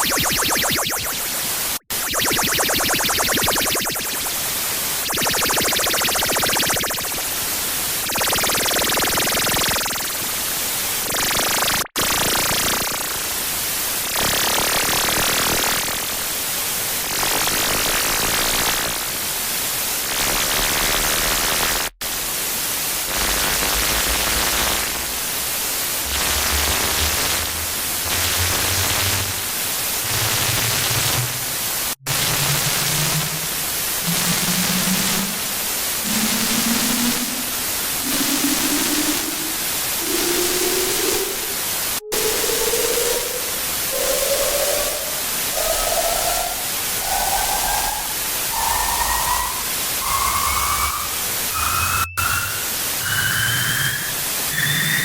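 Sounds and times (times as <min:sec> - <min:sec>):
loud pulsing static hiss: 0:00.0 - 0:54.5.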